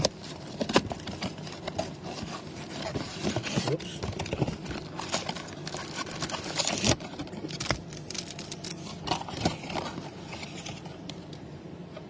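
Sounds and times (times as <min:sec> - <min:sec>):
cardboard rustling and scraping: 0:00.0 - 0:11.1.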